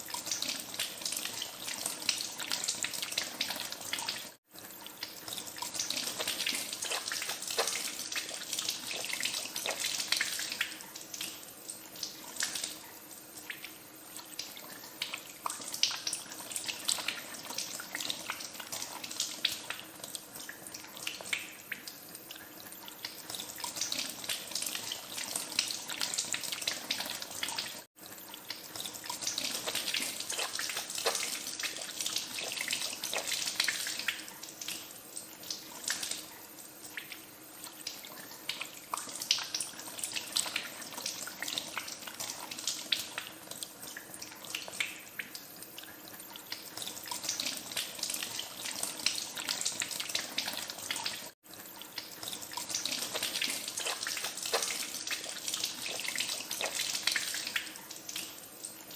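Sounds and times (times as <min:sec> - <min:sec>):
water running from a tap: 0:00.0 - 0:58.9.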